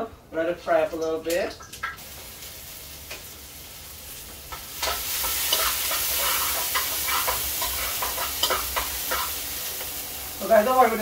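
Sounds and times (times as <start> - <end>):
ginger sizzling in oil: 1.6 - 11.0.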